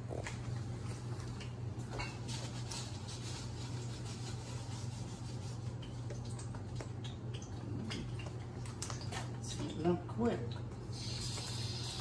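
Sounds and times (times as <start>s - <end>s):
stove hum and hiss: 0.0s - 12.0s.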